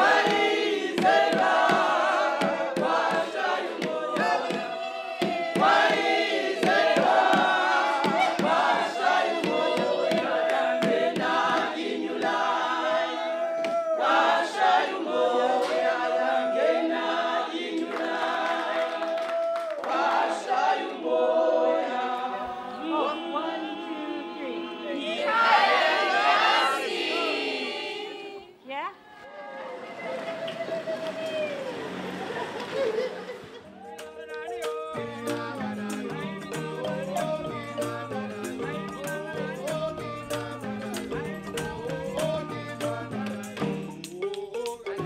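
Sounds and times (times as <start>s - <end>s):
choir singing a cappella: 0.0s - 28.6s, 33.7s - 45.0s.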